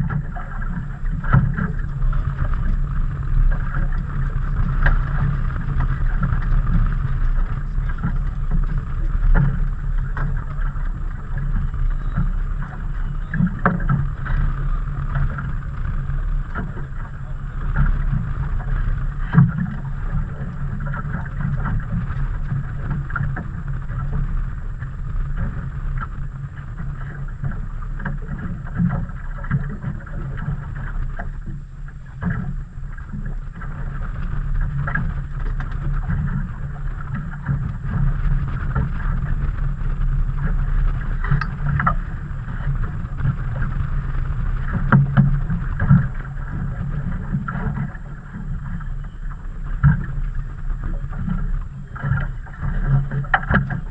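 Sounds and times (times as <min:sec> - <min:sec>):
water noise on choppy water: 0:00.0 - 0:53.9
wind: 0:00.0 - 0:53.9.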